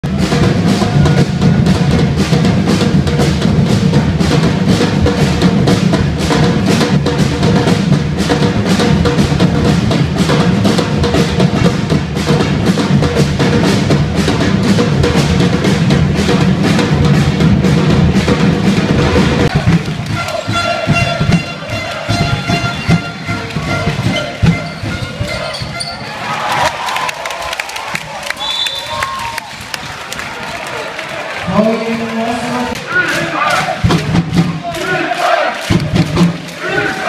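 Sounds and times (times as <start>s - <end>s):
drum band playing: 0.0s - 37.0s.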